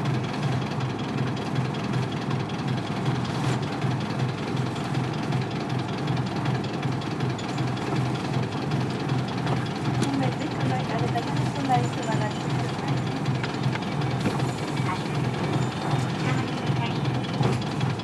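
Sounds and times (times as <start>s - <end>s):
diesel bus engine running: 0.0s - 18.0s.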